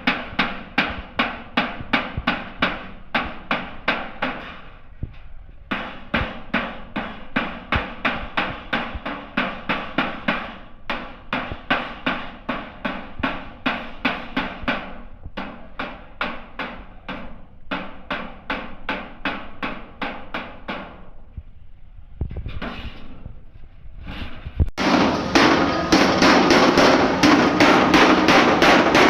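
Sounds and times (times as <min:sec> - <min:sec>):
hammering on sheet metal: 0:00.0 - 0:04.8, 0:05.7 - 0:21.3, 0:24.2 - 0:29.0.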